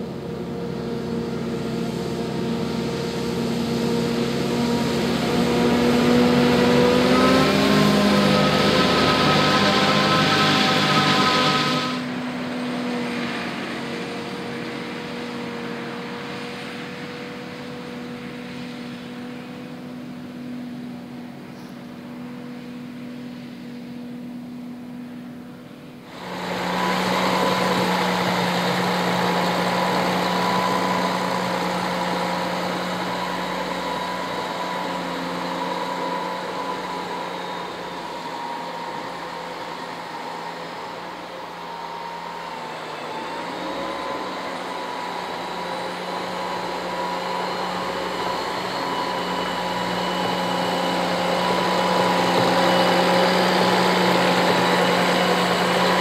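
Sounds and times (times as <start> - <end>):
forage harvester running: 0.0 - 56.0
tracked vehicle engine running: 0.0 - 56.0.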